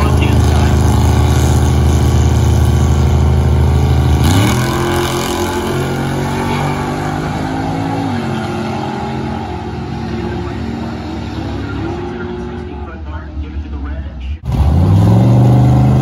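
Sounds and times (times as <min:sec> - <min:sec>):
drag racing engines revving: 0:00.0 - 0:16.0.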